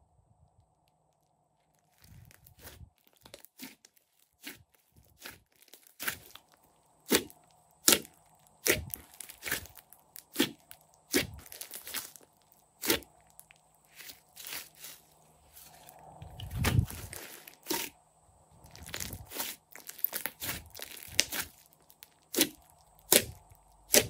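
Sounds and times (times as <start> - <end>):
wet slime squishes: 1.9 - 17.9, 18.6 - 24.0.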